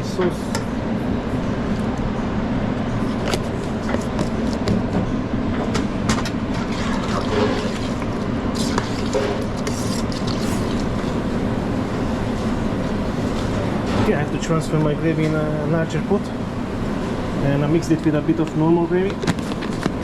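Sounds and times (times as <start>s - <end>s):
kitchen ventilation rumble: 0.0s - 20.0s.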